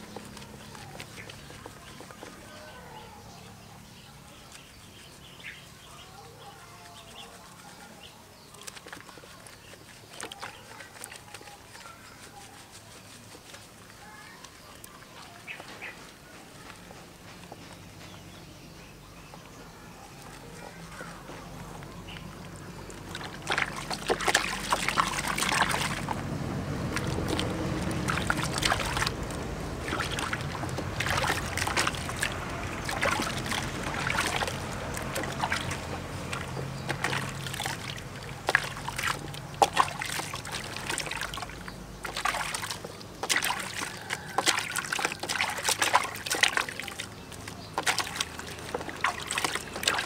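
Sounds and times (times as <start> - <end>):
soapy water sloshing in basin: 0.0 - 50.0.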